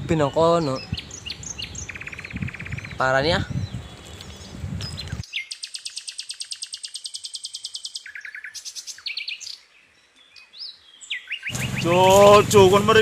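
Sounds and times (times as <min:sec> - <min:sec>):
songbird trilling: 0:00.0 - 0:12.3.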